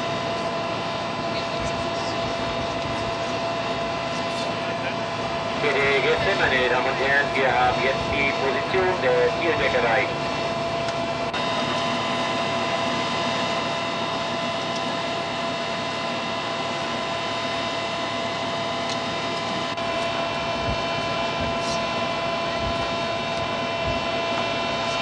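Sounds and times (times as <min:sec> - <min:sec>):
ship engine droning: 0:00.0 - 0:25.0.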